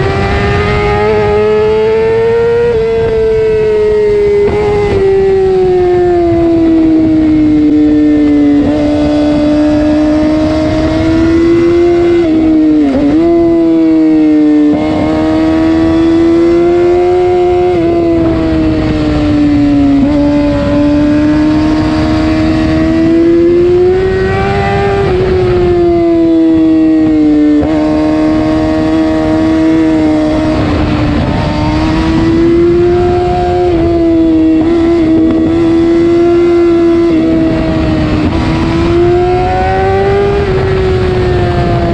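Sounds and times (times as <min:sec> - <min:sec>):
sport bike engine running hard: 0:00.0 - 0:41.9.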